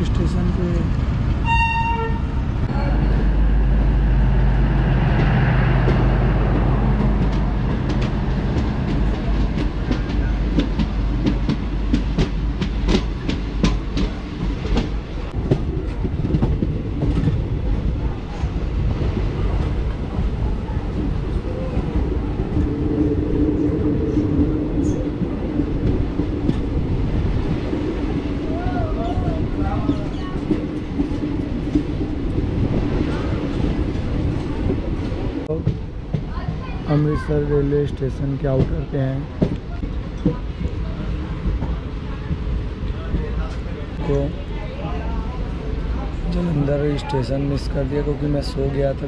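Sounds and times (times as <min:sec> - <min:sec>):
train wheels rumbling on track: 0:00.0 - 0:49.0.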